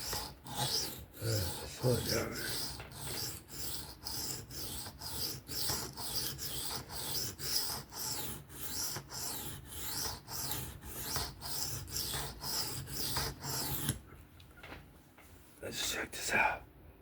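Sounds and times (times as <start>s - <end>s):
knife scraping on sharpening stone: 0.0s - 14.0s.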